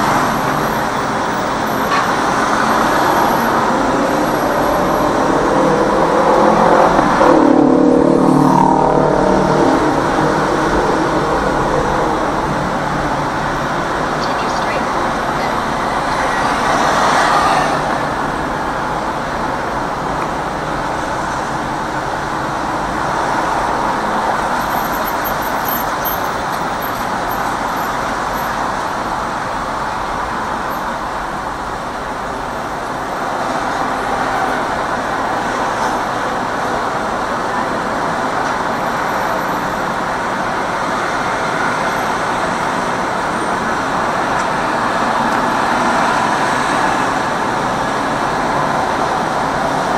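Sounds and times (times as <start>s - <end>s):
street traffic: 0.0s - 49.9s.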